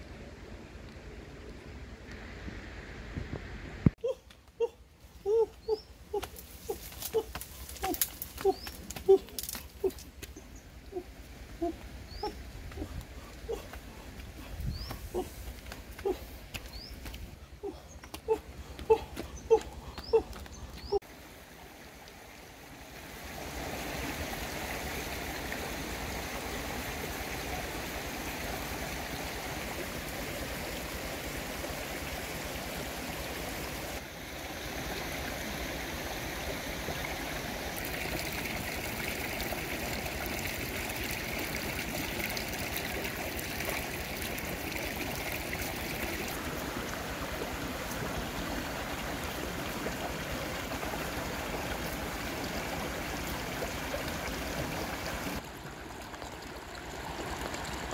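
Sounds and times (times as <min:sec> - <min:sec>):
stream flowing over stones: 0:05.7 - 0:57.9.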